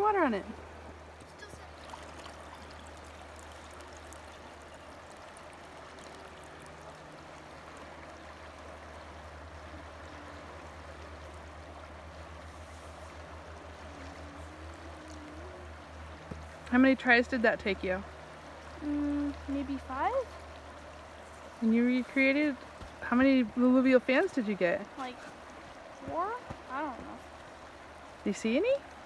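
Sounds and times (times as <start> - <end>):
water trickling over wet sand: 0.0 - 29.0.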